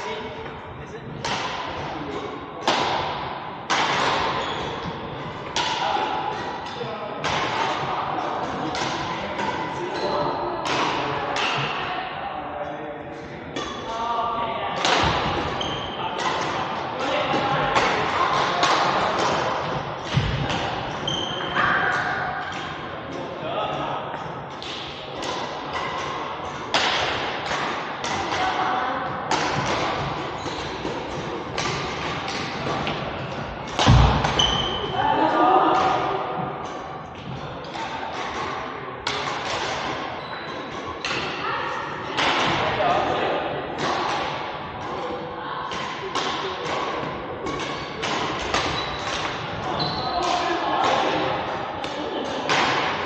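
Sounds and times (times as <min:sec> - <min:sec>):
murmur of voices: 0:00.0 - 0:53.0
rackets hitting shuttlecocks: 0:01.2 - 0:11.8, 0:14.8 - 0:23.3, 0:24.2 - 0:28.6, 0:29.3 - 0:35.0, 0:35.7 - 0:41.4, 0:42.1 - 0:42.8, 0:43.7 - 0:53.0.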